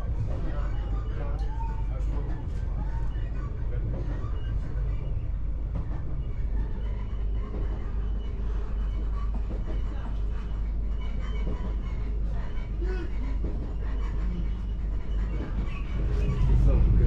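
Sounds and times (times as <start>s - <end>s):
faint voices: 0.0s - 17.0s
train rumbling: 0.0s - 17.0s.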